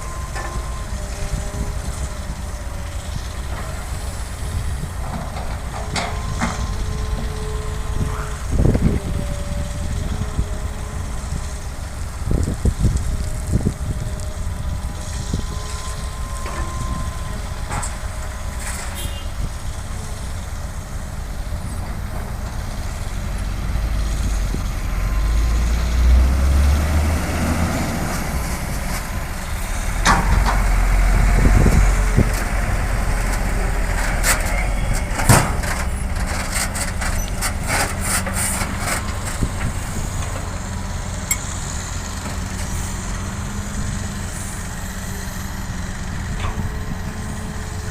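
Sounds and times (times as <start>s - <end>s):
diesel machinery rumbling: 0.0s - 47.9s.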